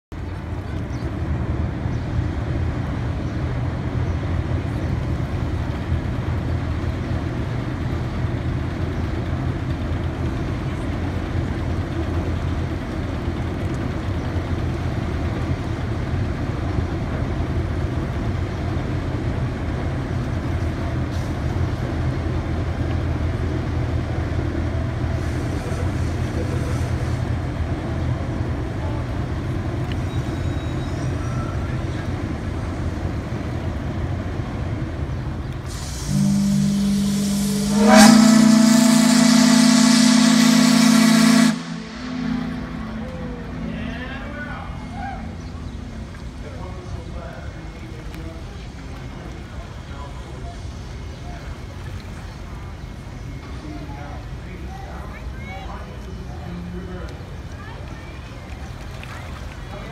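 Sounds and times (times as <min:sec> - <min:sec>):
low machinery rumble: 0:00.1 - 0:59.9.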